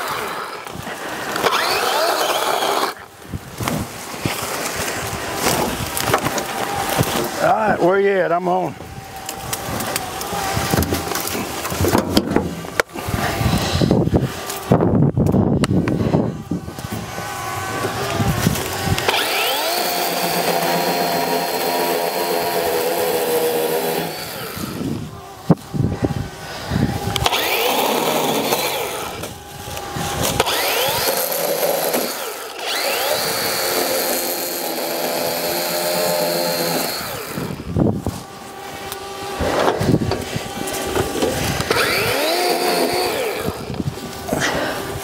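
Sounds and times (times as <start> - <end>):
cordless chainsaw cutting brush: 0.0 - 45.0.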